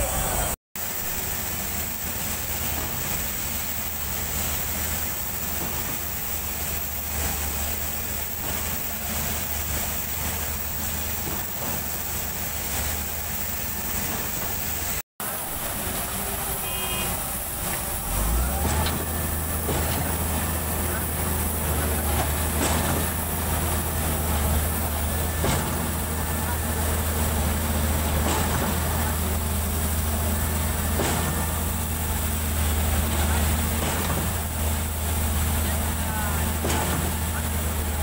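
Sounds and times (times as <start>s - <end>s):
diesel engines humming: 0.0s - 38.0s.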